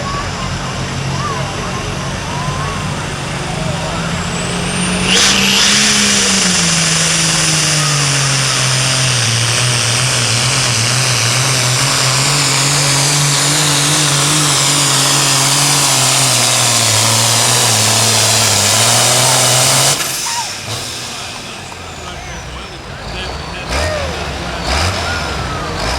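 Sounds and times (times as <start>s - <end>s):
diesel tractor engine at full throttle: 0.0s - 25.9s
high whine: 1.4s - 24.6s.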